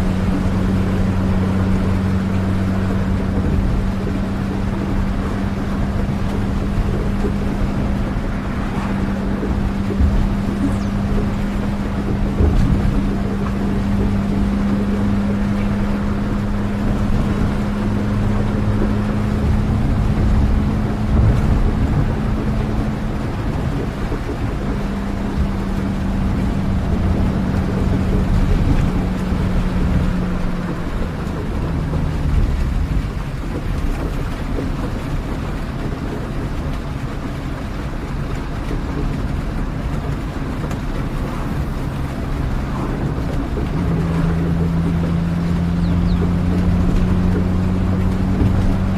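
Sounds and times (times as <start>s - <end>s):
low hum: 0.0s - 35.4s, 38.9s - 48.9s
vehicle engine drone: 0.0s - 48.9s.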